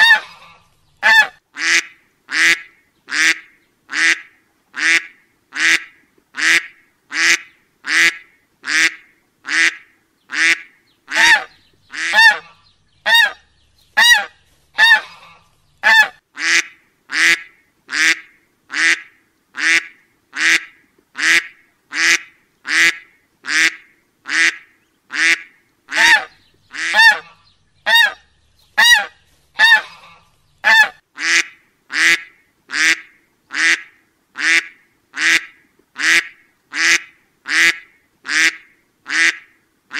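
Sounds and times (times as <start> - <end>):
duck quacking: 0.0 - 13.4, 14.0 - 28.2, 28.8 - 39.6.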